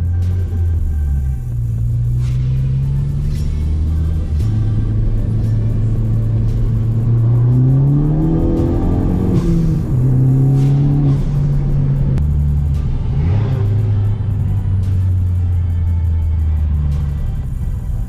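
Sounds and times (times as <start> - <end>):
car engine accelerating: 0.0 - 18.0
music playing: 0.0 - 18.0.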